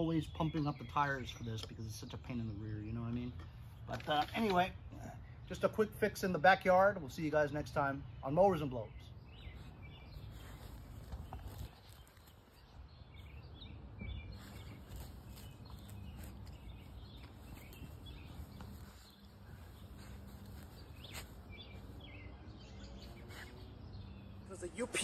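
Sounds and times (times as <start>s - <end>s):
low steady background noise: 0.0s - 25.0s
small birds chirping: 0.0s - 25.0s.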